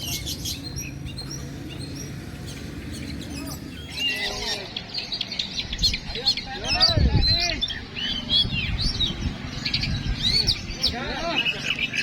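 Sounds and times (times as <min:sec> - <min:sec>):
birds whistling phrases: 0:00.0 - 0:12.0
songbirds chirping: 0:00.0 - 0:12.0.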